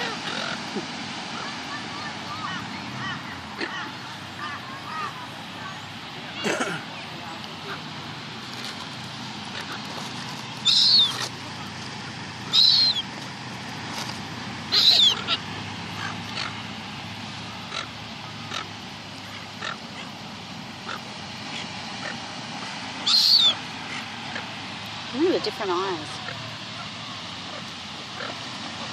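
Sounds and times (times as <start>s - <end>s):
gulls calling: 0.0s - 28.9s
steady background noise: 0.0s - 28.9s.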